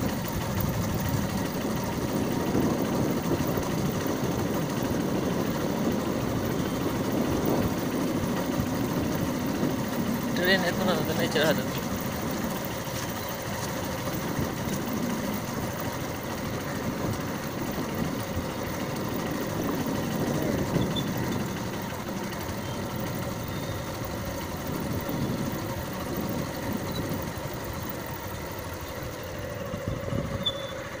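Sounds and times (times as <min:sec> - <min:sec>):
motorbike engine running: 0:00.0 - 0:31.0.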